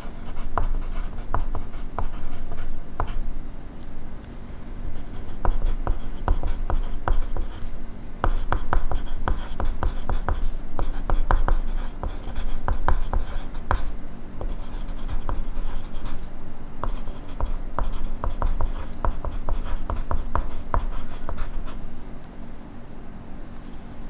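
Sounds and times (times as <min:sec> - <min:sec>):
pencil writing on paper: 0:00.0 - 0:03.2, 0:05.0 - 0:21.8.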